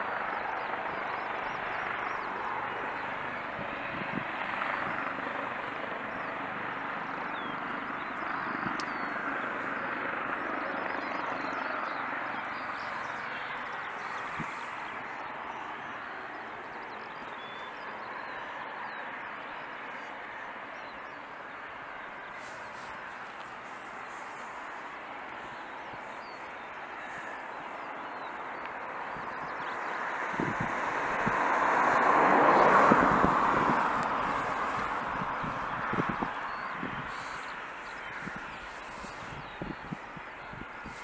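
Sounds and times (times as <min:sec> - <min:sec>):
helicopter turbine and rotor: 0:00.0 - 0:41.0.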